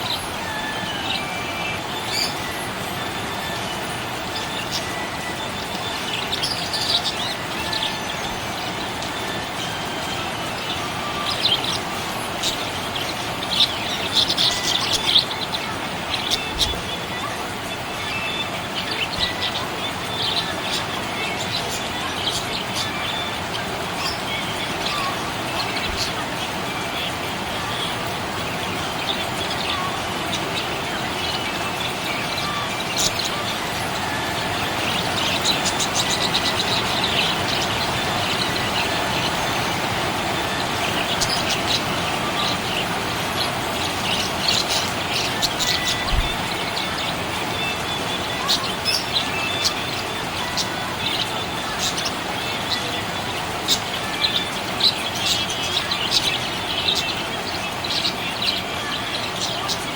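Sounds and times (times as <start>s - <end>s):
parrots chirping: 0.0s - 59.9s.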